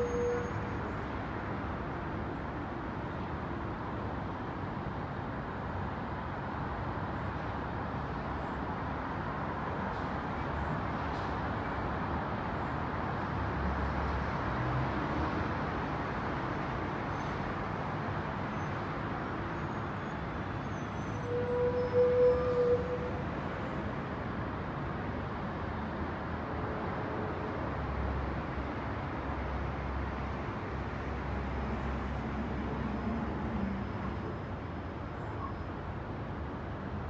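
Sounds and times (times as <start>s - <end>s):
distant traffic hum: 0.0s - 37.0s.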